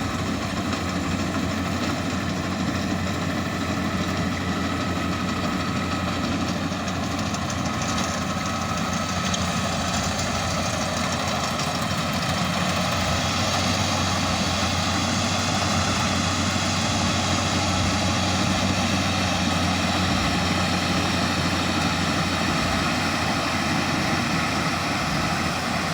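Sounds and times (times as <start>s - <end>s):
combine harvester engine hum: 0.0s - 25.9s.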